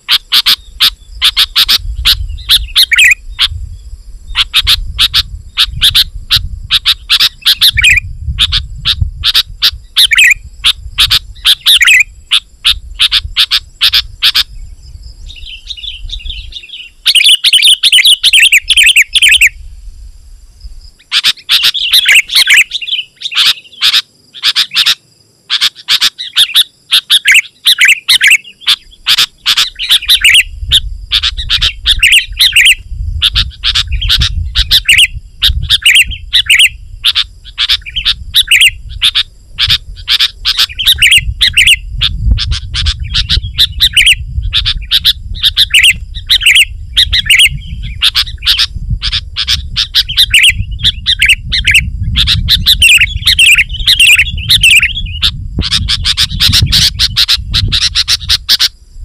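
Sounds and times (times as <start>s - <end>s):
bulbul singing: 0.0s - 19.8s, 20.8s - 58.8s.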